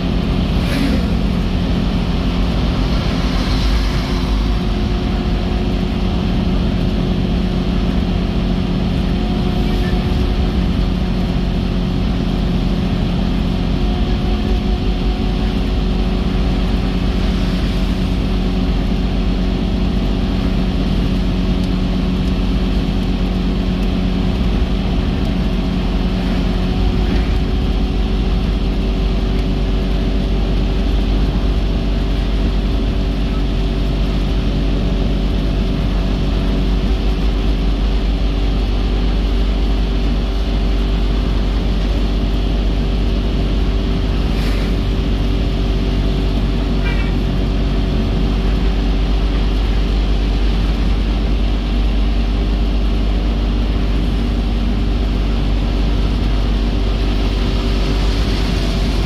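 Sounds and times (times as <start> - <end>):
car engine drone: 0.0 - 59.0
tyre and road noise: 0.0 - 59.0.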